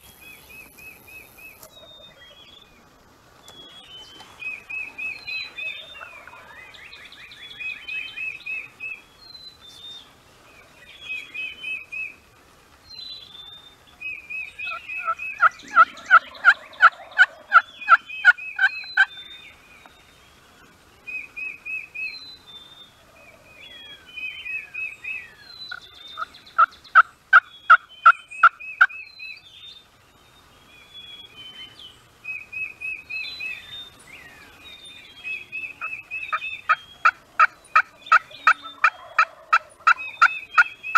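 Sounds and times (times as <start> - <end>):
songbirds trilling: 0.0 - 40.9
wild turkey calling: 0.2 - 2.8, 3.5 - 12.2, 13.2 - 20.0, 21.1 - 29.8, 30.8 - 40.9.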